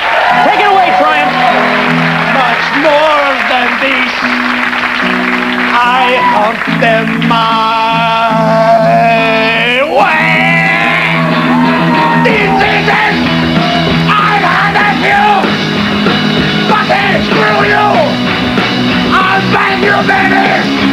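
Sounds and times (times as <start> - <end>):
rock band playing loudly: 0.0 - 20.9.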